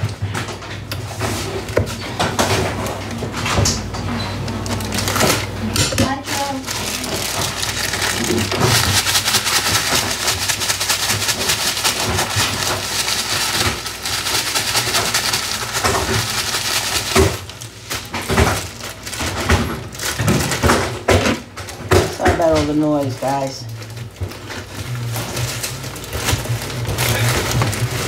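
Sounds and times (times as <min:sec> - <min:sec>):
plastic bag rustling crackly: 0:01.1 - 0:28.0.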